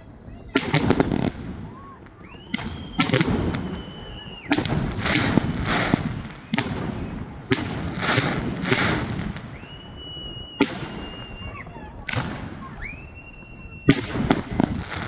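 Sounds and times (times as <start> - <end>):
firework crackle: 0.0 - 15.0
rising firework whistle: 0.0 - 15.0
firework bangs: 0.2 - 15.0.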